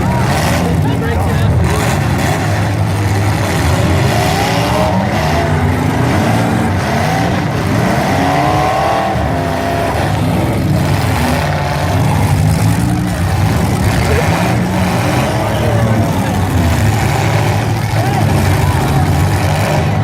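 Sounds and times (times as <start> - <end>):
steady low engine sound: 0.0 - 20.0
vehicle engines revving: 0.0 - 20.0.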